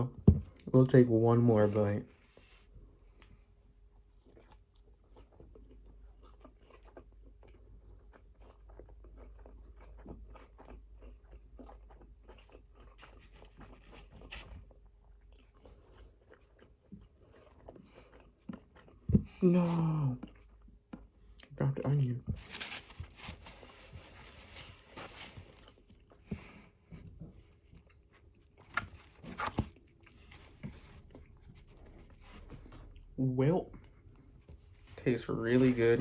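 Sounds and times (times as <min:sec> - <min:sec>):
person chewing food: 0:02.2 - 0:21.6, 0:22.4 - 0:36.0.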